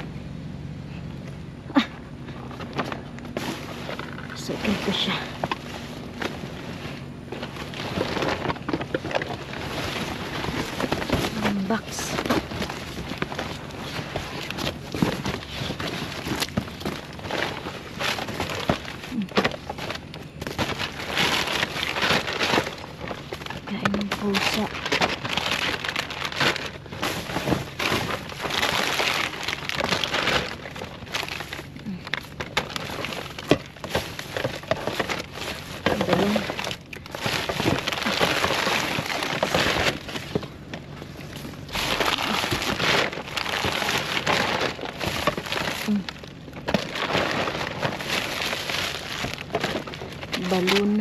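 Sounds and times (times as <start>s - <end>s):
plastic and cardboard rustling: 1.8s - 51.0s.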